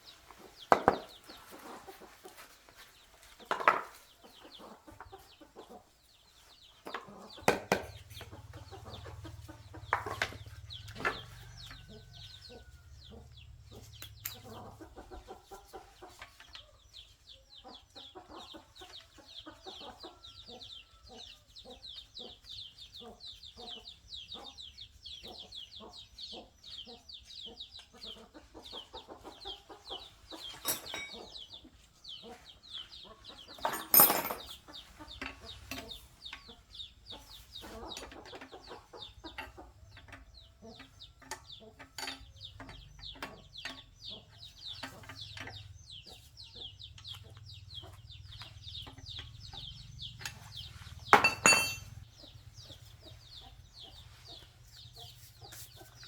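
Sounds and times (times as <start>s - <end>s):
chicks peeping: 0.0s - 33.6s, 34.4s - 51.2s, 51.9s - 56.0s.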